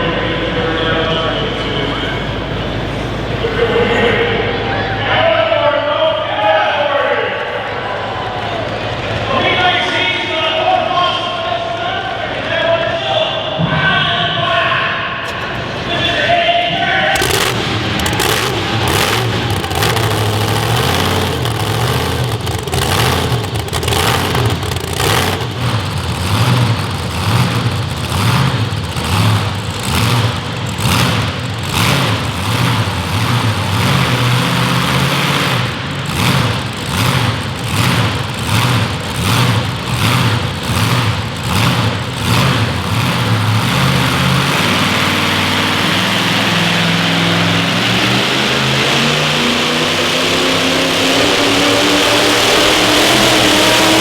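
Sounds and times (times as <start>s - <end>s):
loud engine surging: 0.0s - 12.9s, 15.2s - 54.0s.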